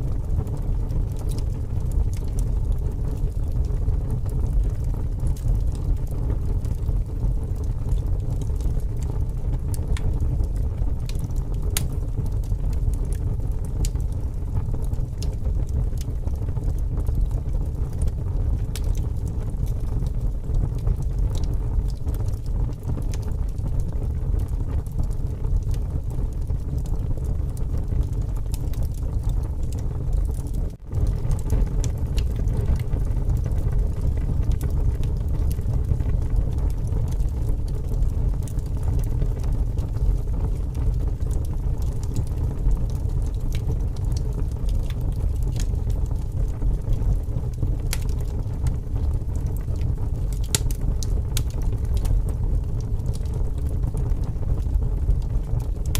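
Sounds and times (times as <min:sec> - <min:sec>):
strong wind rumble: 0:00.0 - 0:55.9
wood fire crackling: 0:00.0 - 0:55.9.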